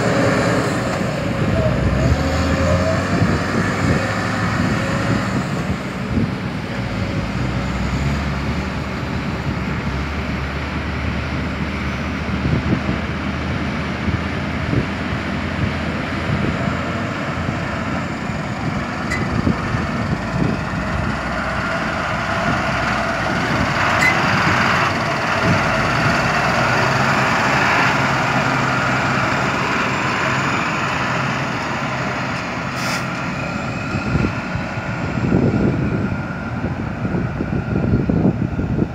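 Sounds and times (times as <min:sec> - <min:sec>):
excavator engine and hydraulics: 0:00.0 - 0:38.9.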